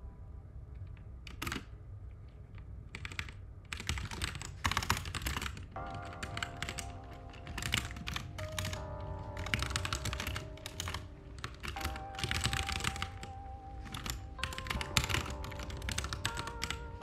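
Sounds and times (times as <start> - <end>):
soft background music: 0.0 - 17.0
keyboard typing: 0.8 - 1.8, 2.9 - 17.0.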